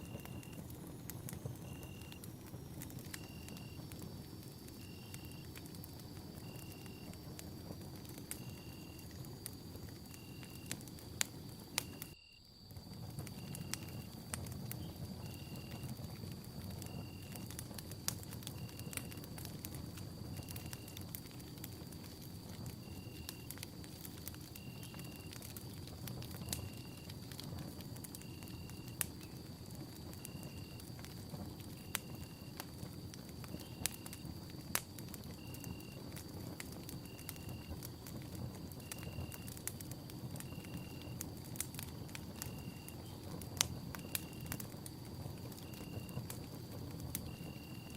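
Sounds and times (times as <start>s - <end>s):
burning wood popping: 0.0s - 47.9s
campfire crackling: 0.0s - 47.9s.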